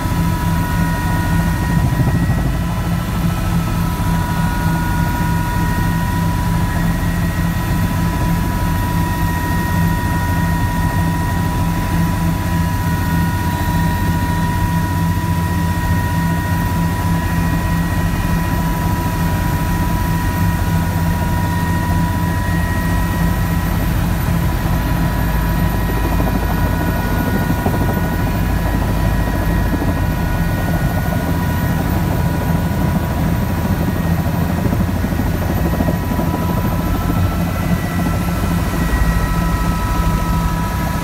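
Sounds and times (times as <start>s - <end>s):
helicopter engine and rotor drone: 0.0s - 41.0s
high turbine whine: 0.0s - 41.0s.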